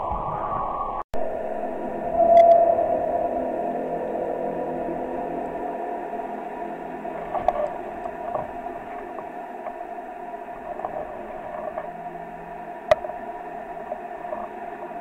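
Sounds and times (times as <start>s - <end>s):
wind harp drone: 0.0s - 15.0s.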